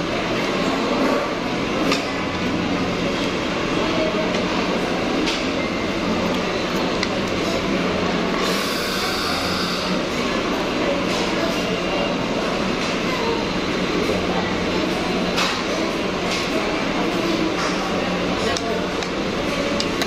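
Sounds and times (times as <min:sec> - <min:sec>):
restaurant background din: 0:00.0 - 0:20.0.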